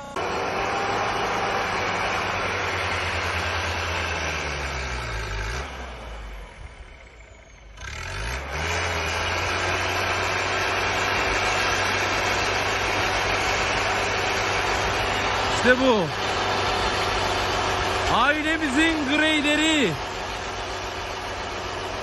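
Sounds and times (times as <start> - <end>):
pickup engine running hard: 0.0 - 22.0.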